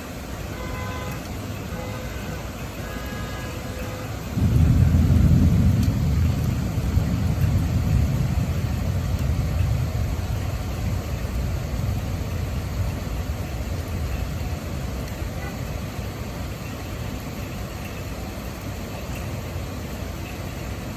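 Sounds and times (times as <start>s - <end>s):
thunder rumbling: 4.0s - 20.9s.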